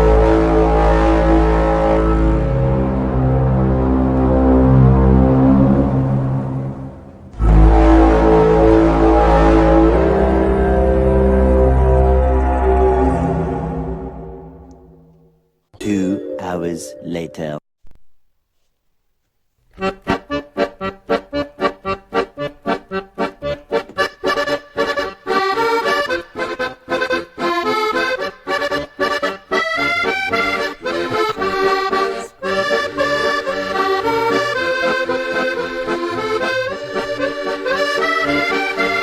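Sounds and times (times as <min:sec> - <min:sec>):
accordion tune: 0:00.0 - 0:12.9, 0:19.7 - 0:39.0.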